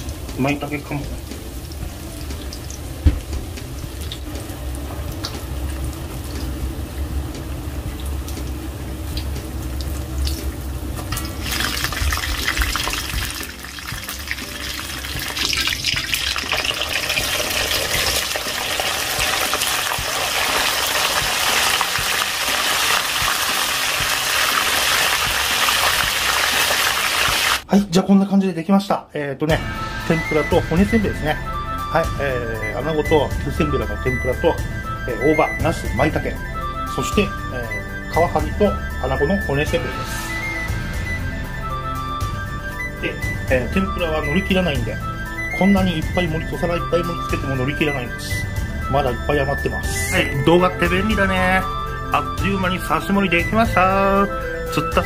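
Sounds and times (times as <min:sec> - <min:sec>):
deep-frying sizzle: 0:00.0 - 0:27.7, 0:29.5 - 0:55.0.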